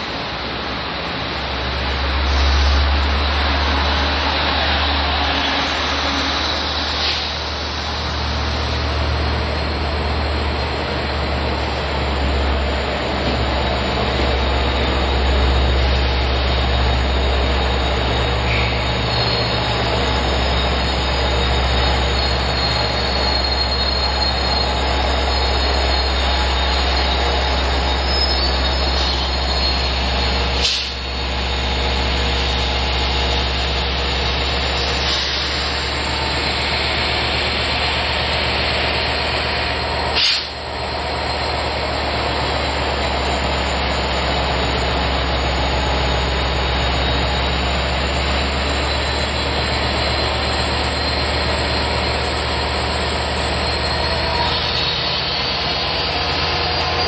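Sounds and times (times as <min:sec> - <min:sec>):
diesel locomotive hum: 0:00.0 - 0:57.0
train wheels on rails: 0:00.0 - 0:57.0.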